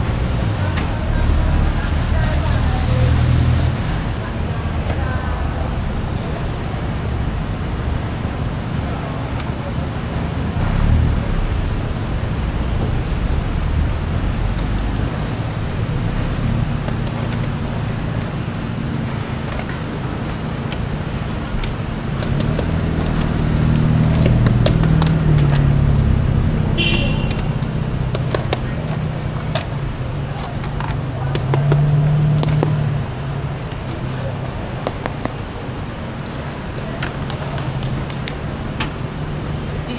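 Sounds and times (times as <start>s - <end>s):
road traffic engines: 0.0s - 39.9s.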